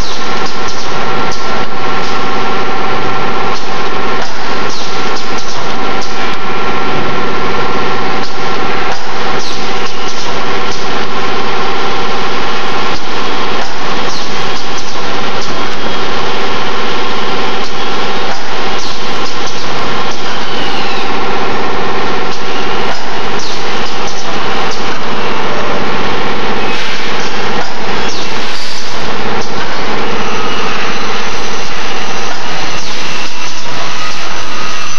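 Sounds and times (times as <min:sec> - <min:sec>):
machine humming: 0:00.0 - 0:34.9.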